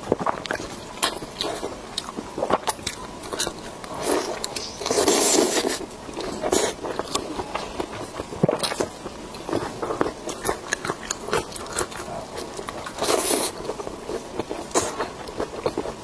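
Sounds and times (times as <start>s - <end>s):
biting and chewing: 0.0s - 16.0s.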